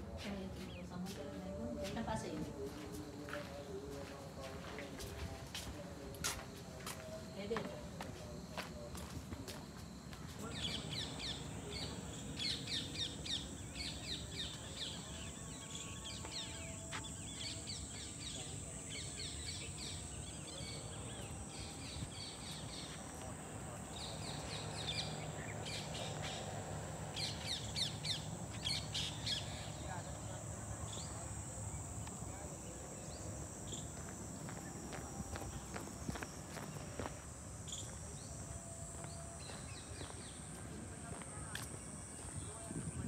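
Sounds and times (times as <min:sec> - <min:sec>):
birds chirping: 0:06.7 - 0:43.0.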